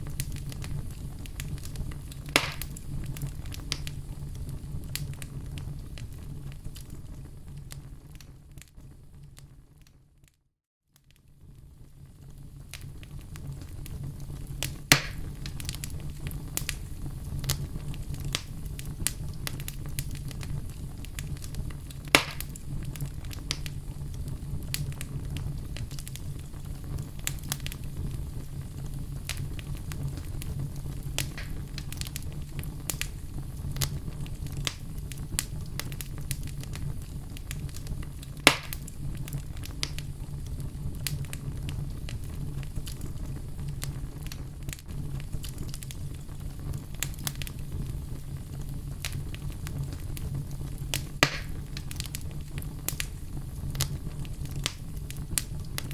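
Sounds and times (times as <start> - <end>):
sharp pops from fire: 0.0 - 9.9, 11.9 - 55.9
wood fire burning: 0.0 - 10.4, 11.0 - 55.9.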